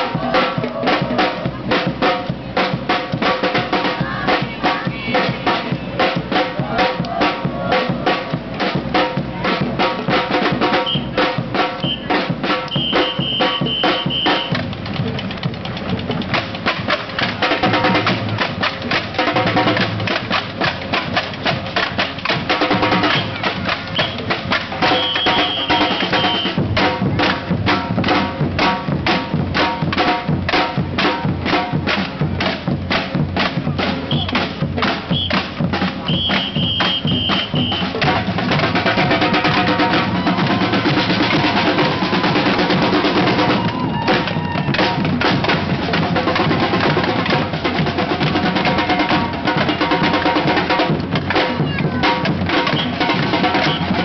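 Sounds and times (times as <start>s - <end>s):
fast drumbeat: 0.0s - 54.0s.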